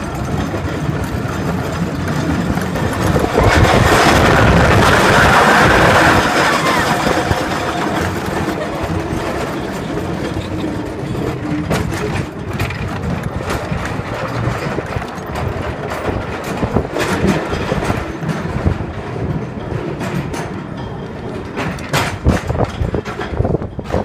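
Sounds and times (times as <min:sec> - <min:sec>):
roller coaster rumbling on rails: 0:00.0 - 0:24.0.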